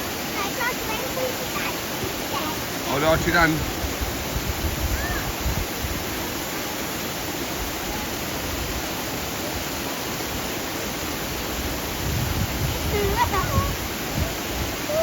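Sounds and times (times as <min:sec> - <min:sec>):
stream water rushing over falls: 0:00.0 - 0:15.0.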